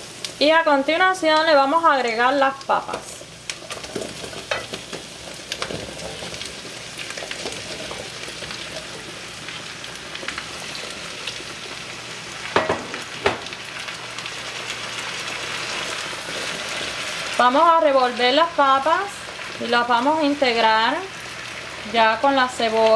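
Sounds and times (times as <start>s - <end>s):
onion and garlic sizzling in a pan: 0.0s - 22.9s.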